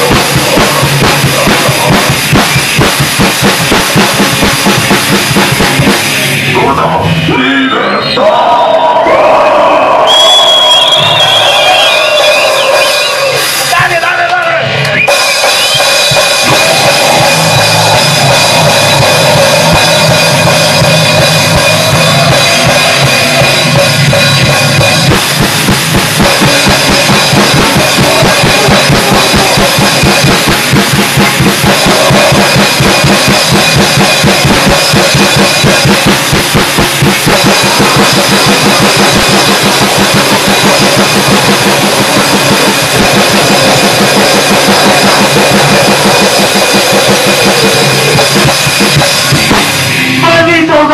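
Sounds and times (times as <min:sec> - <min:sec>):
fast drum kit: 0:00.0 - 0:07.4, 0:09.0 - 0:50.9
distorted guitar: 0:00.0 - 0:50.9.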